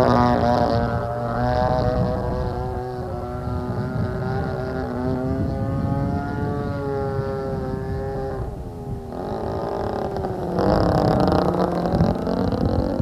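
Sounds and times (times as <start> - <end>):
model airplane engine buzzing: 0.0 - 13.0.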